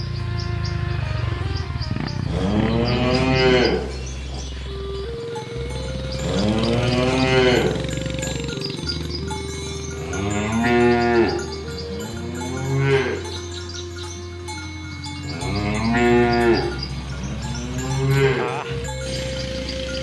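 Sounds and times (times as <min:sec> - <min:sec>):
cattle mooing: 0:01.8 - 0:20.0.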